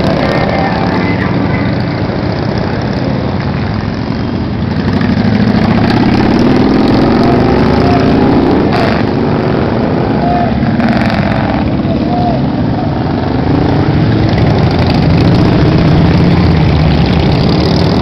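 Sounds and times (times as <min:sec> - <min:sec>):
motorcycle accelerating: 0:00.0 - 0:18.0
motorcycle engines running: 0:00.0 - 0:18.0.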